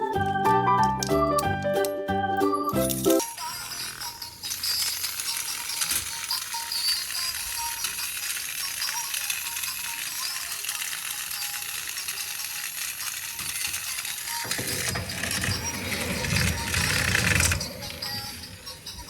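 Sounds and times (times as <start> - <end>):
plastic and metal parts rattling: 3.2 - 19.0.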